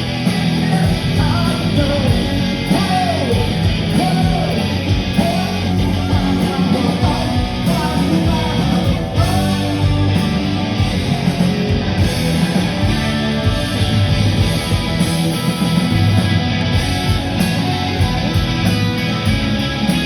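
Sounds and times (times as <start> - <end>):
bass: 0.0 - 20.0
distorted electric guitars: 0.0 - 20.0
drums: 0.0 - 20.0.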